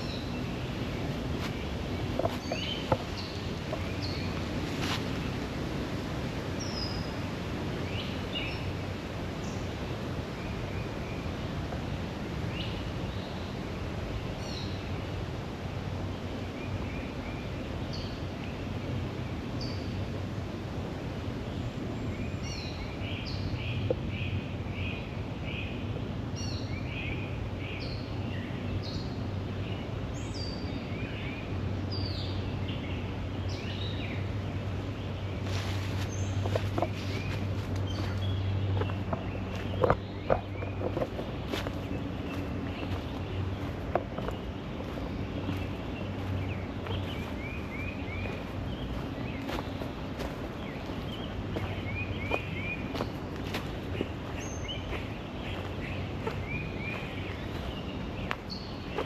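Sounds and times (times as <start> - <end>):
birds chirping: 0.0 - 13.6, 21.4 - 59.0
outdoor background rush: 0.0 - 59.0.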